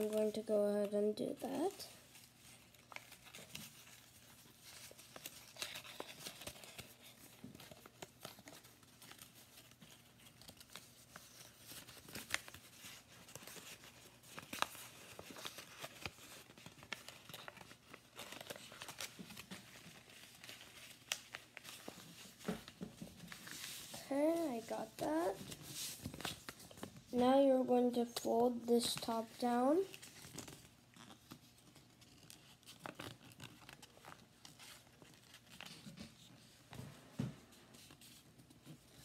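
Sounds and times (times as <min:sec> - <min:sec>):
paper rustling and crackling: 0:00.0 - 0:39.0.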